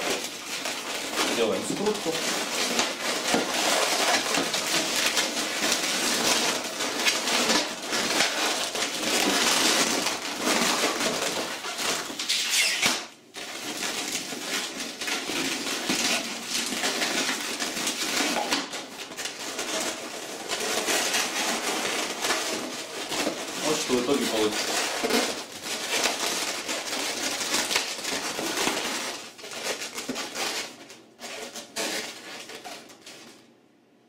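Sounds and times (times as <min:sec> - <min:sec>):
balloons squeaking and rubbing: 0:00.0 - 0:33.2.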